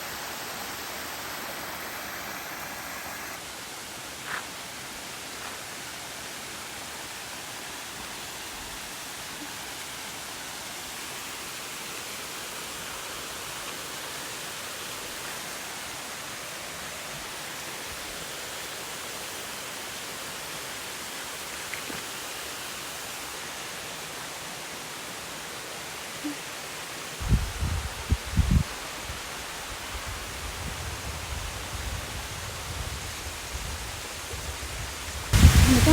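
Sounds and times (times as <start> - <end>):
small waterfall rushing: 0.0 - 35.9.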